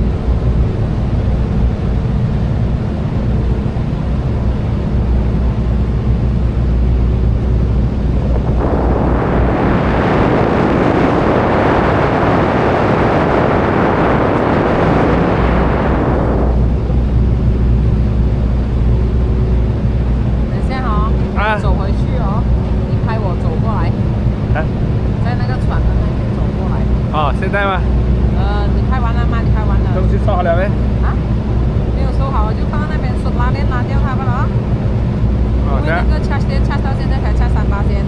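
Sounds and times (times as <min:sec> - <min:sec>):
boat engine droning: 0:00.0 - 0:38.0
rushing wind or water: 0:00.0 - 0:38.0.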